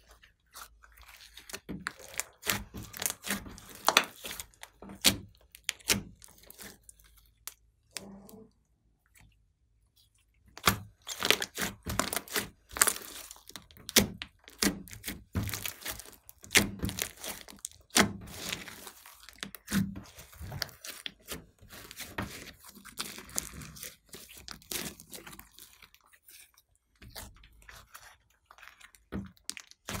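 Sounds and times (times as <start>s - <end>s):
slime clicking and crackling: 0.0s - 8.1s, 10.4s - 30.0s.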